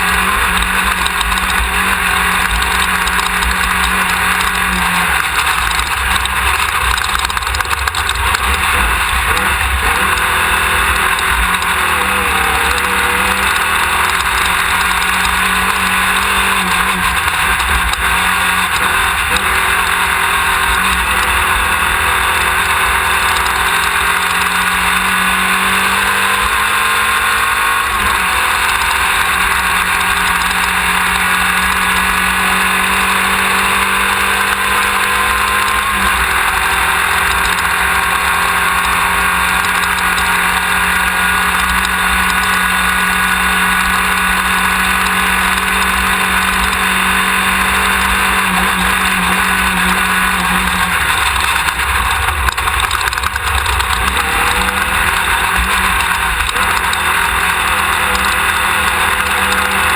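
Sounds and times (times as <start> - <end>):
race car engine running hard: 0.0 - 59.9
wind and driving noise: 0.0 - 59.9.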